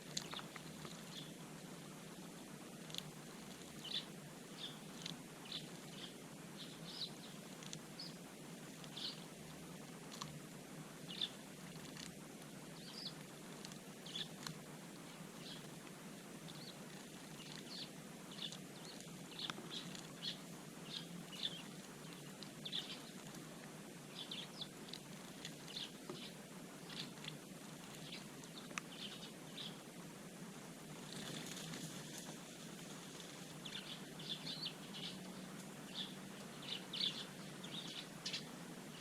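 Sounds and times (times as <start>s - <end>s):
sparrows chirping: 0.0s - 1.4s, 2.8s - 10.4s, 11.0s - 29.9s, 33.0s - 39.0s
faint background hiss: 0.0s - 39.0s.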